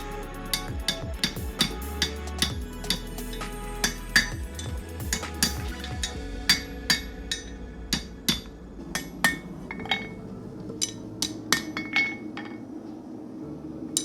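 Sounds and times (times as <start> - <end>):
low hum: 0.0 - 14.0
hammer striking steel on anvil: 0.5 - 10.2, 10.8 - 12.6.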